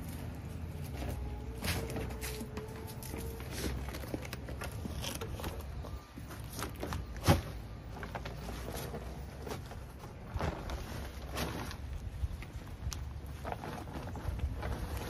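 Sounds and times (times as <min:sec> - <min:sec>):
potting soil rustling and scraping: 0:00.0 - 0:15.0.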